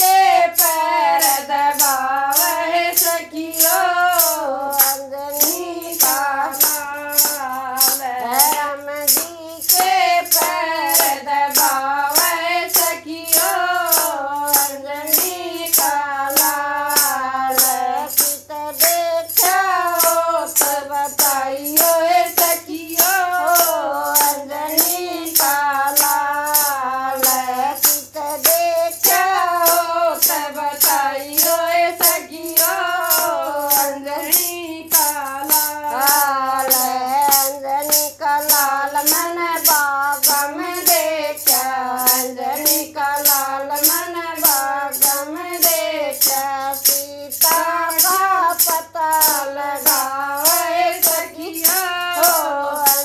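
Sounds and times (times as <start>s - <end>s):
jingle clapper shaken: 0.0s - 53.0s
women singing: 0.0s - 53.0s.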